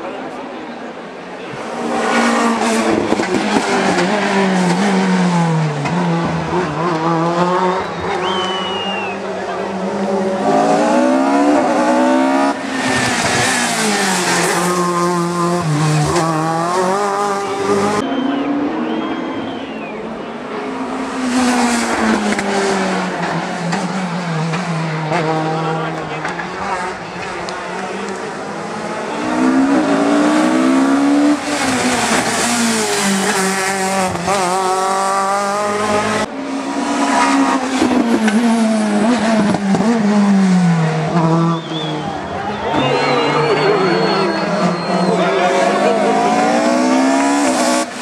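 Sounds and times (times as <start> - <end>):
race car engine revving: 1.4 - 48.0.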